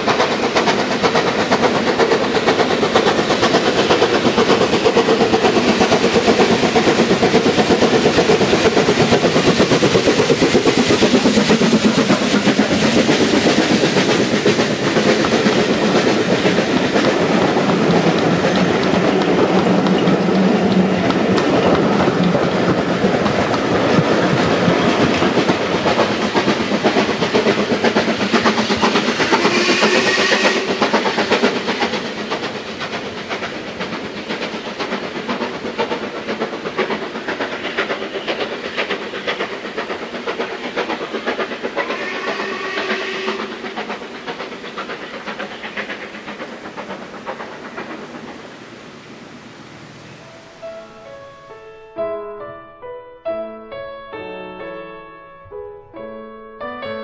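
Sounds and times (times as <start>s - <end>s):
train wheels clicking over rail joints: 0.0s - 49.4s.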